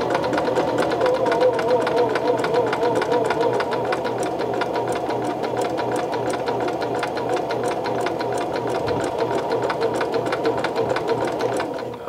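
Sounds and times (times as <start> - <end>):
sewing machine motor hum: 0.0 - 12.0
sewing machine needle clattering: 0.0 - 12.0.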